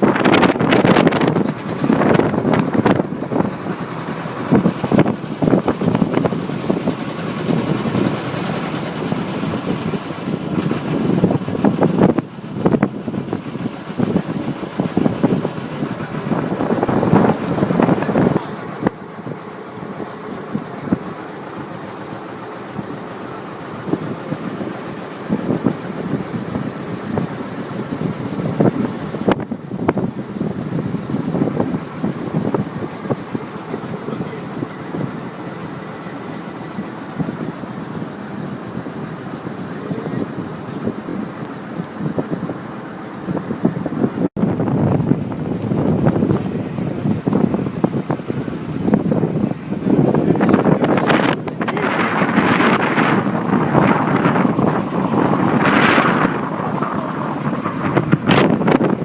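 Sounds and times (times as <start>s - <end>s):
boat motor running: 0.0s - 59.0s
water noise: 0.0s - 59.0s
wind: 0.0s - 59.0s.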